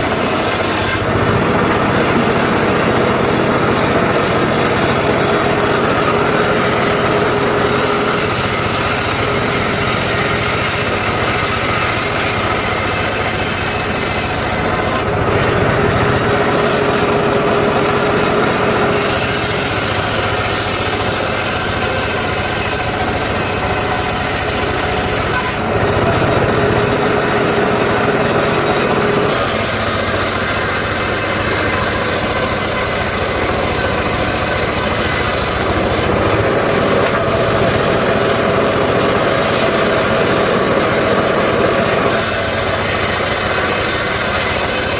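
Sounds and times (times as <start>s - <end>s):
circular saw sawing wood: 0.0s - 44.9s.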